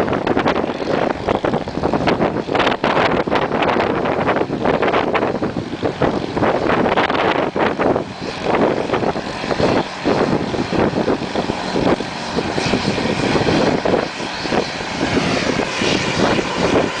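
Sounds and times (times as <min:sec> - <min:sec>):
wind blowing hard in gusts: 0:00.0 - 0:17.0.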